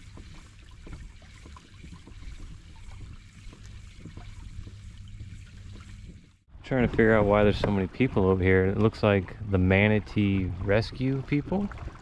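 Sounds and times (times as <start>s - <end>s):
small splashes: 0.0s - 6.5s, 7.6s - 12.0s
water lapping against kayak hull: 0.0s - 12.0s.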